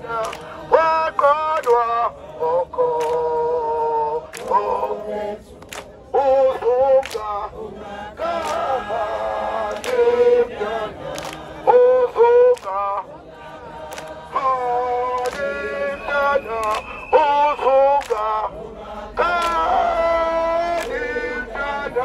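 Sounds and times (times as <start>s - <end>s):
group singing along: 0.0s - 22.0s
man singing through a megaphone: 0.0s - 22.0s.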